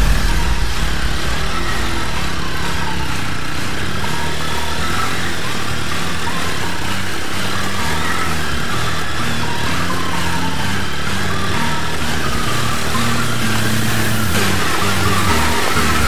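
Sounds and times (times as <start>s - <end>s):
motorcycle engines running: 1.1s - 16.0s.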